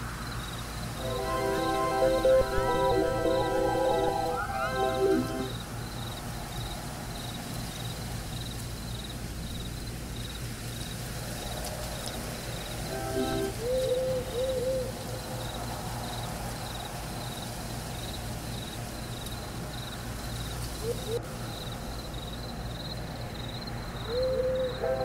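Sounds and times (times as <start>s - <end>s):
rapid cricket-like chirping: 0.0s - 13.8s, 15.0s - 25.0s.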